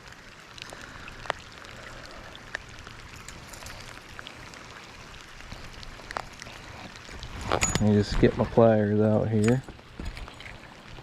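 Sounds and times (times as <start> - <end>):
small drips and ticks: 0.0 - 11.0
water pattering: 0.0 - 11.0.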